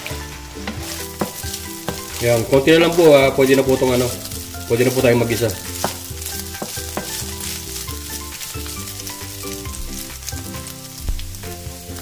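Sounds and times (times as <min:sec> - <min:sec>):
pork sizzling in a frying pan: 0:00.0 - 0:12.0
wooden spoon clicking and scraping: 0:00.6 - 0:11.0.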